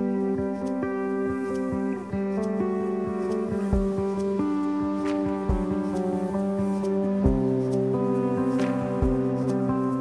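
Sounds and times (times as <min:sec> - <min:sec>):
held notes: 0:00.0 - 0:10.0
plucked notes: 0:00.0 - 0:10.0.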